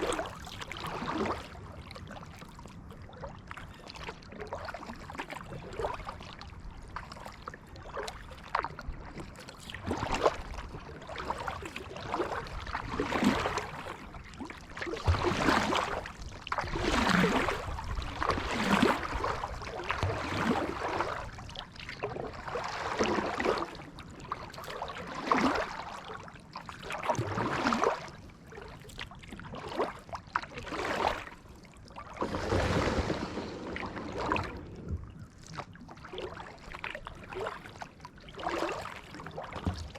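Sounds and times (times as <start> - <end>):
paddle splashing through water: 0.0 - 2.7, 3.3 - 39.9.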